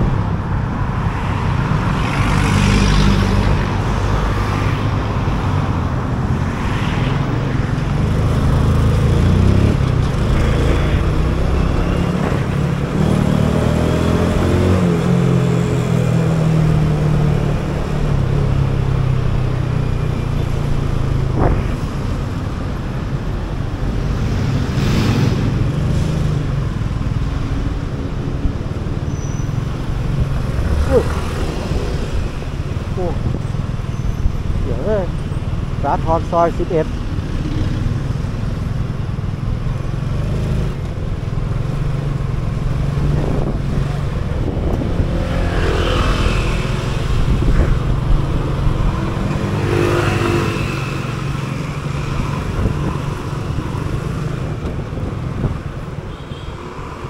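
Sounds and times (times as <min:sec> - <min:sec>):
cars and motorcycles passing: 0:00.0 - 0:57.0.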